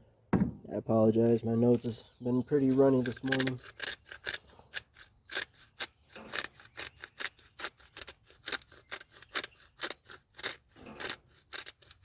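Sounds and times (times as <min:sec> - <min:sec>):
spice grinder rasping: 0:01.8 - 0:12.0.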